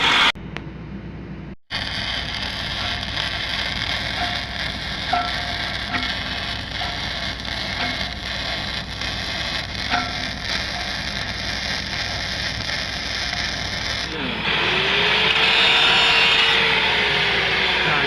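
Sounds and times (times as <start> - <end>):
welding arc hissing and crackling: 0.0 - 0.4, 1.7 - 18.0.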